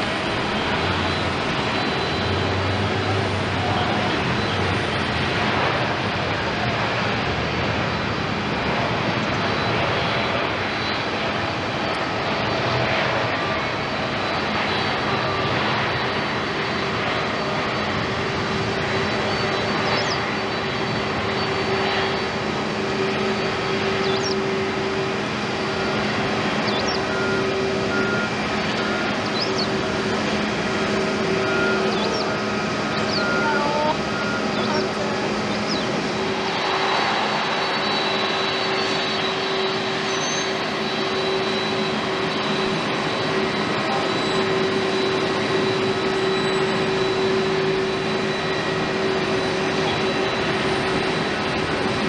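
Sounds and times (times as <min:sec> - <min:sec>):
jet engine noise: 0:00.0 - 0:52.0.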